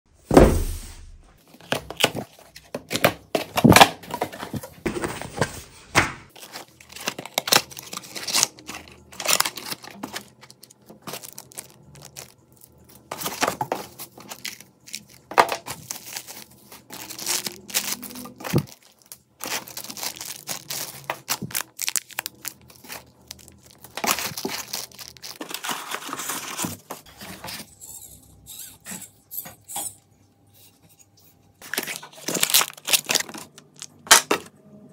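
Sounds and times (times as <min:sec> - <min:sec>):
packaging rustling and crinkling: 0:01.4 - 0:27.6, 0:31.6 - 0:34.4.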